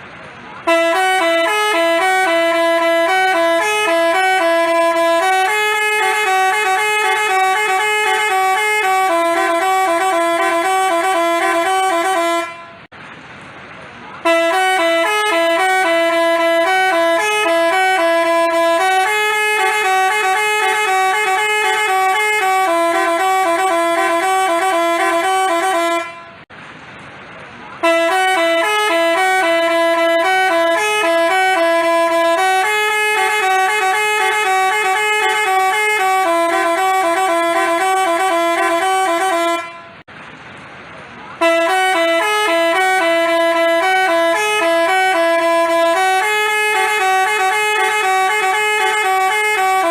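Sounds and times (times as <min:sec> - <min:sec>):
musical horn playing a tune: 0:00.6 - 0:12.9, 0:14.2 - 0:26.4, 0:27.8 - 0:40.0, 0:41.4 - 0:49.9.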